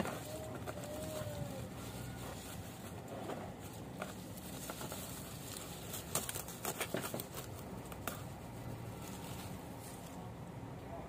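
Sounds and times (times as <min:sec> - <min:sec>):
plant stems crackling: 0:00.0 - 0:10.3
leaves rustling: 0:00.0 - 0:10.4.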